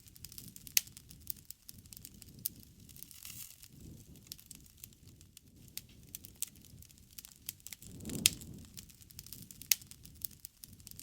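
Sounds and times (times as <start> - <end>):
low rumble of burning: 0.0 - 11.0
wood fire pops and snaps: 0.0 - 11.0.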